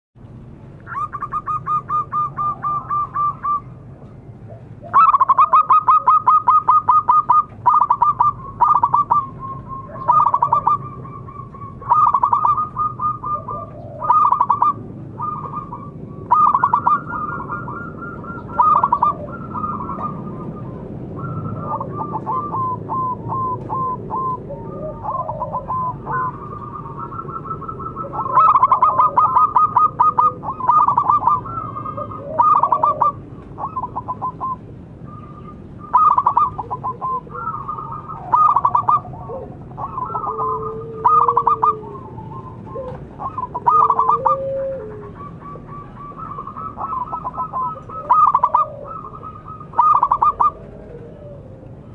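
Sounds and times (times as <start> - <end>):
dove cooing: 0.8 - 51.9.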